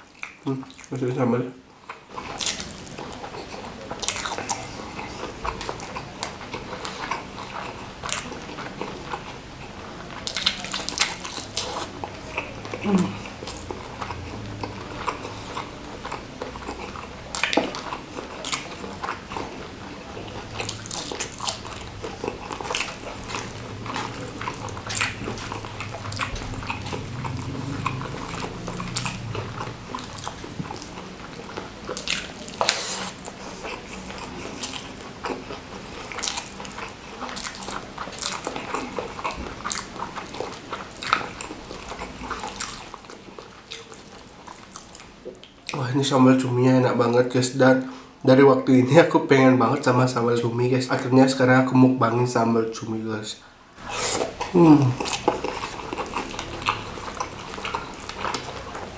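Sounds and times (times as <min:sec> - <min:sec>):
person chewing food: 0:00.0 - 0:01.0, 0:01.6 - 0:46.2, 0:53.5 - 0:58.9
crunchy chewing clicks: 0:00.0 - 0:01.1, 0:01.8 - 0:46.4, 0:53.7 - 0:58.9.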